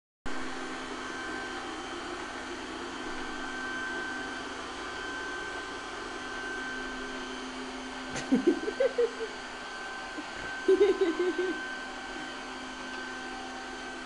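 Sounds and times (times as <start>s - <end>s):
robot vacuum cleaner whirring: 0.6s - 14.0s.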